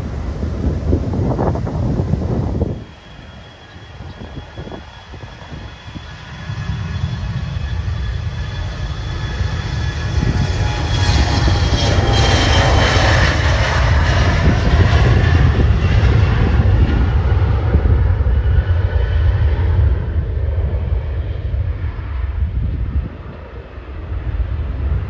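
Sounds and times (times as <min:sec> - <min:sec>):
jet engines rumble and whine: 0:00.0 - 0:25.0.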